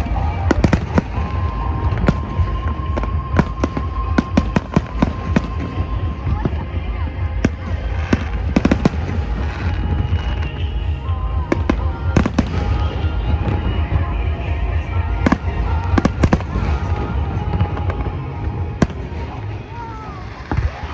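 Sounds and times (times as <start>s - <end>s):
fireworks cracking and banging: 0.0s - 20.9s
low rumble: 0.0s - 20.9s.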